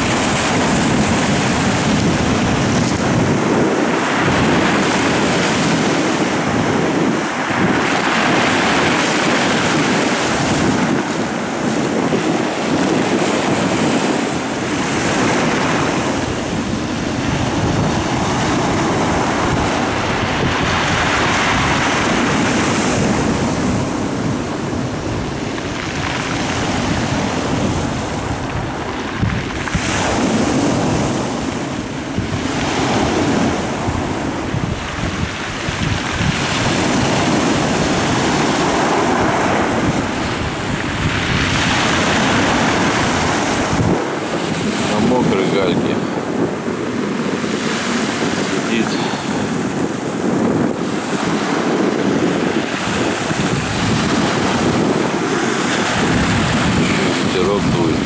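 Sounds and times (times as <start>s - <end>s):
waves breaking on pebbles: 0.0s - 58.0s
wind rumbling on microphone: 0.0s - 58.0s.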